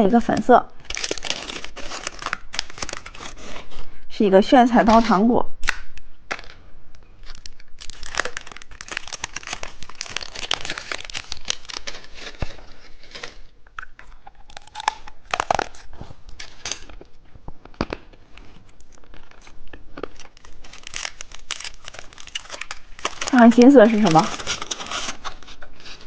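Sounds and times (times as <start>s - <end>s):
packaging crinkling and tearing: 0.0s - 3.9s, 4.7s - 26.0s.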